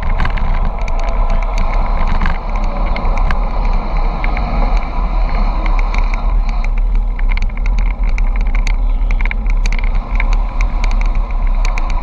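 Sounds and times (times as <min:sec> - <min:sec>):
bicycle clicks and rattles: 0:00.0 - 0:12.0
wind buffeting microphone: 0:00.0 - 0:12.0.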